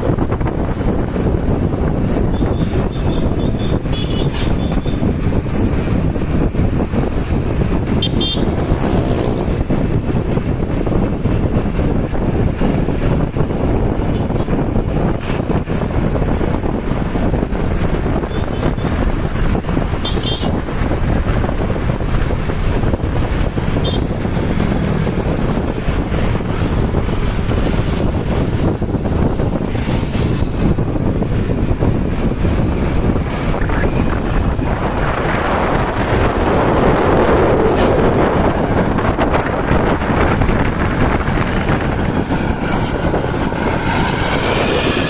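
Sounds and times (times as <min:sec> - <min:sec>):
bus engine and exhaust: 0:00.0 - 0:45.0
wind buffeting microphone: 0:00.0 - 0:45.0.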